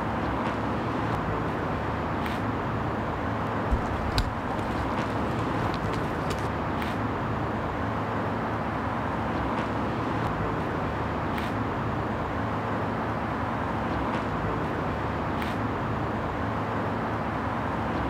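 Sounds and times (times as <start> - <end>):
distant road traffic hum: 0.0 - 18.0.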